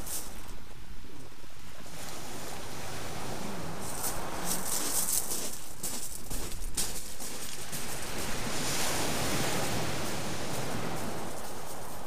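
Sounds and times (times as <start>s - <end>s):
rushing beach noise: 0.0s - 12.0s.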